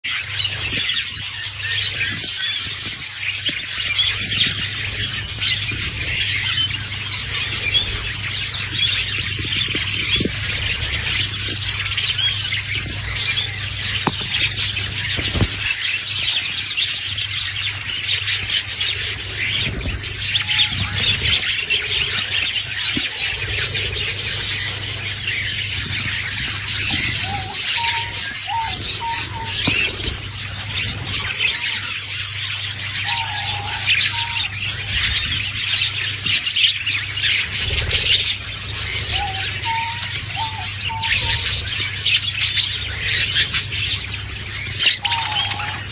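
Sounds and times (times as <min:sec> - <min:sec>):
budgies chattering and chirping: 0:00.0 - 0:45.9
steady low hum: 0:00.1 - 0:45.9.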